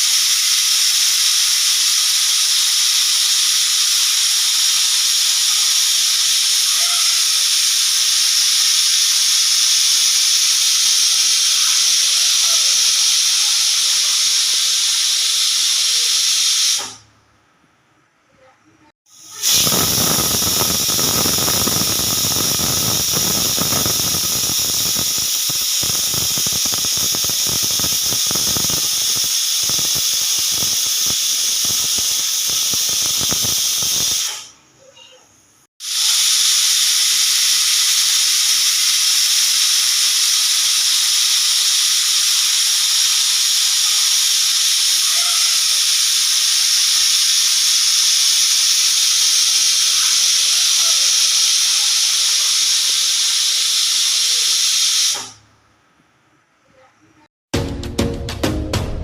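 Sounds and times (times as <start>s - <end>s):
pressure cooker whistle hissing: 0.0s - 17.1s, 19.1s - 35.1s, 35.8s - 55.4s.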